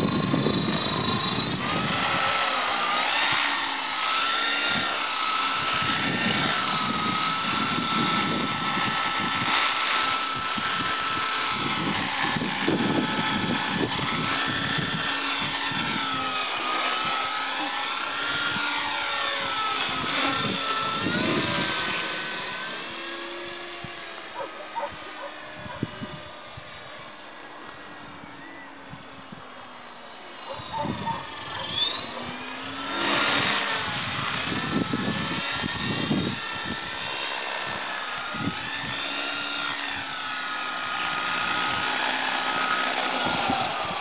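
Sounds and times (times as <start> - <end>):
model helicopter whine: 0.0 - 44.0.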